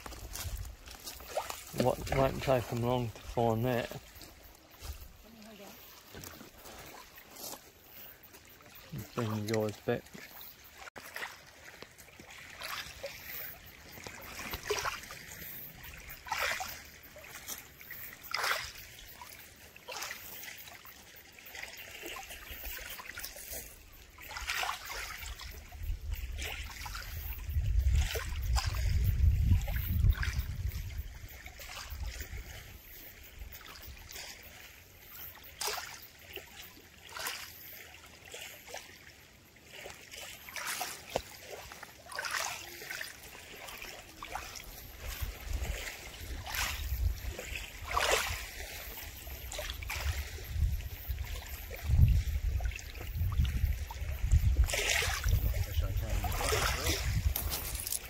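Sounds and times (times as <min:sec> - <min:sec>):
wavelets lapping on shore: 0:00.0 - 0:58.0.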